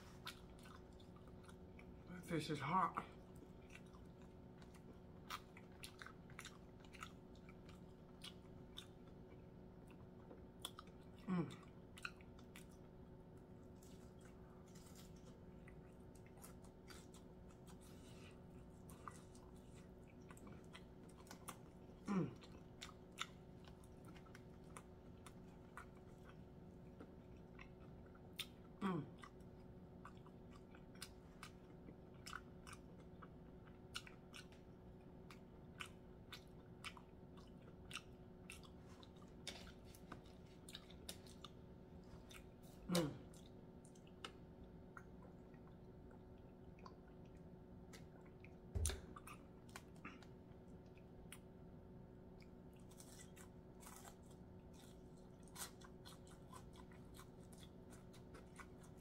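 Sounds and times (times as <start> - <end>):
person chewing: 0.0 - 2.1, 3.1 - 51.7, 52.3 - 59.0
room hum: 0.0 - 59.0.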